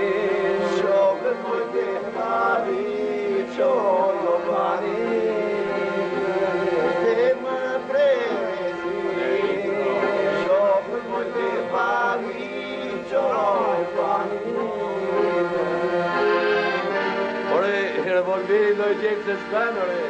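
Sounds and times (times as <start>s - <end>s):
man singing: 0.0s - 20.0s
piano accordion: 0.0s - 20.0s.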